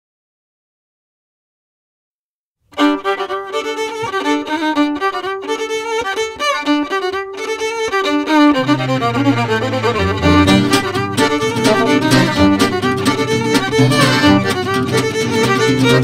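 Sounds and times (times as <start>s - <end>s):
klezmer tune with fiddle lead: 2.7s - 16.0s.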